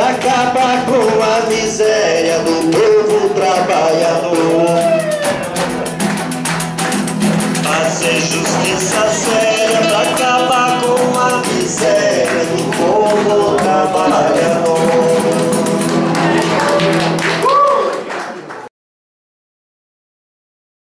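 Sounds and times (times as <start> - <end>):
person singing: 0.0 - 6.0, 7.2 - 18.0
acoustic guitar strumming: 0.0 - 17.4.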